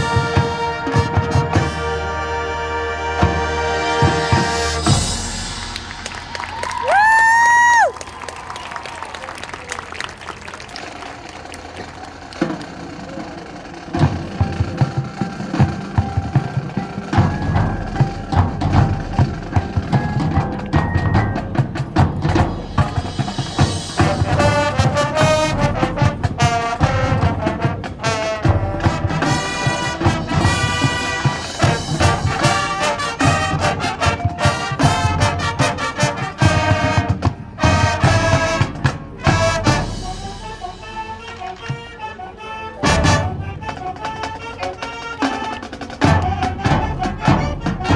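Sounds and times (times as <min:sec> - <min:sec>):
brass chords: 0:00.0 - 0:06.8, 0:13.3 - 0:47.9
drumline beat: 0:00.0 - 0:47.9.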